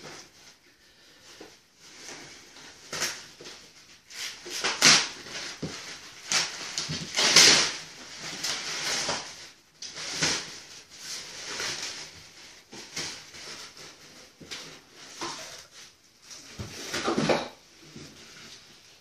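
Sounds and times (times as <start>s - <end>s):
plastic wrap and cardboard rustling: 0.0s - 19.0s.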